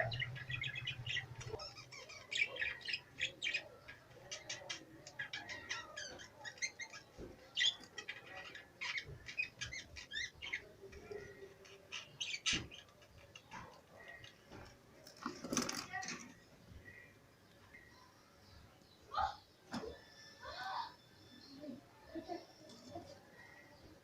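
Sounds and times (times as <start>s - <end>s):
caged birds chirping: 0.0s - 24.0s.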